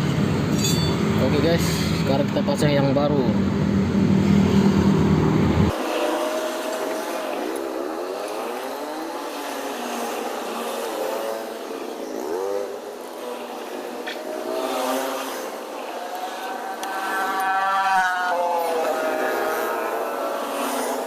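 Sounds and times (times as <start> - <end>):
small motorbike engines revving: 0.0 - 21.0.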